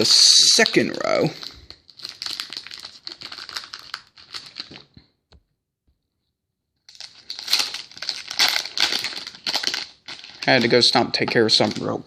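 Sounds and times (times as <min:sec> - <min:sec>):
foil wrapper crinkling and tearing: 0:00.0 - 0:05.0, 0:06.9 - 0:12.0.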